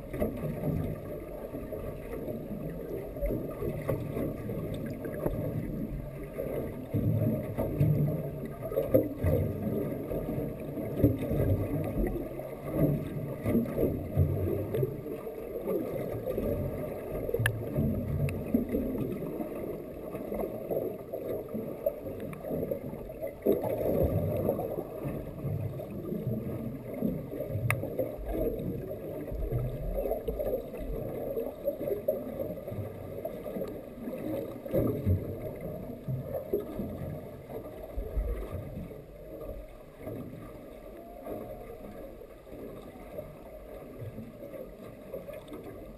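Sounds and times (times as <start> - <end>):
muffled underwater water sloshing: 0.0 - 45.9
faint ticks: 0.1 - 19.4, 20.1 - 28.7, 29.3 - 42.0.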